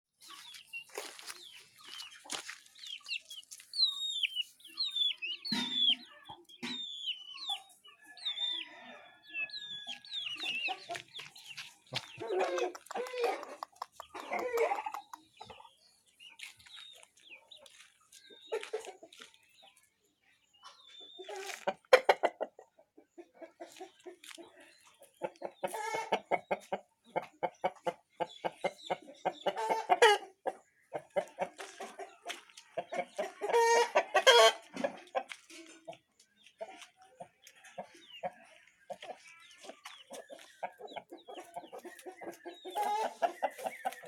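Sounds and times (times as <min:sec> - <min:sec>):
chickens clucking: 0:00.2 - 0:44.0.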